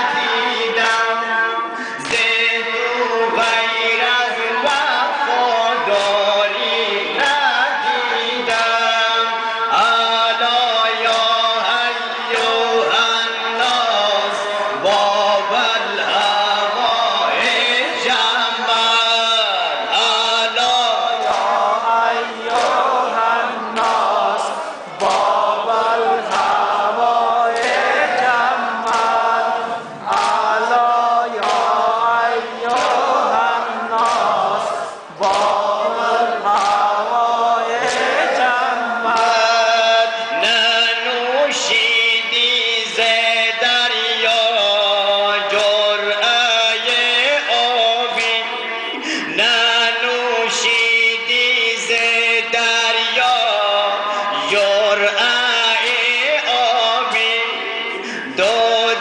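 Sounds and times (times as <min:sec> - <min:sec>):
man chanting into a microphone: 0:00.0 - 0:59.0
sharp rhythmic beats: 0:00.0 - 0:59.0.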